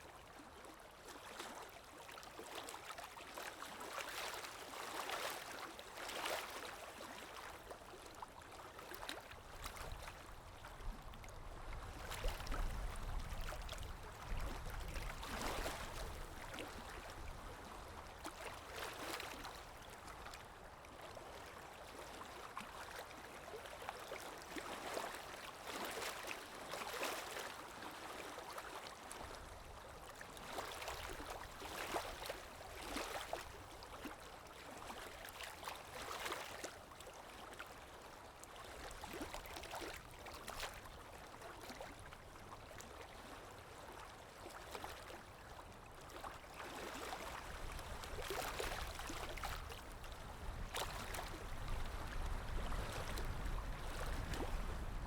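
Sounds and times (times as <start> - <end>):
small waves lapping at shore: 0.0 - 55.0.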